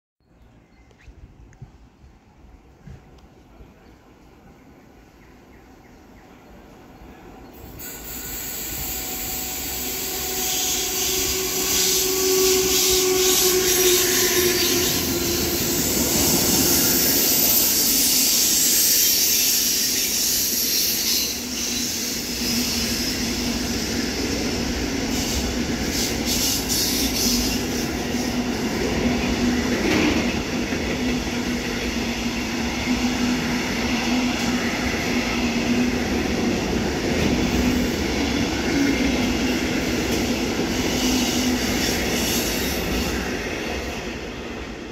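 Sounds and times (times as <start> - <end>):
electric locomotive whining: 6.0 - 44.9
train wheels rumbling: 7.6 - 44.9.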